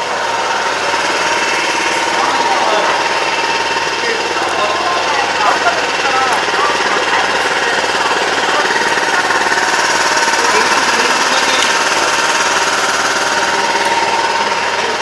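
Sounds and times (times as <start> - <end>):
people talking: 0.0 - 12.6, 13.2 - 15.0
small engine chugging: 0.0 - 15.0.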